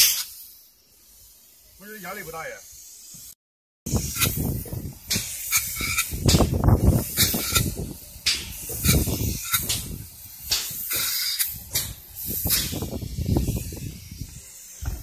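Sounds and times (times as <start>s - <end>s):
spray gun hissing: 0.0s - 15.0s.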